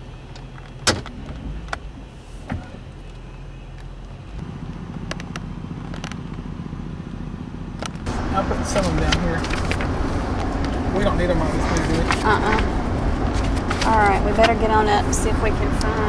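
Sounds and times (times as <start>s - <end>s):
car engine and road hum: 0.0s - 16.0s.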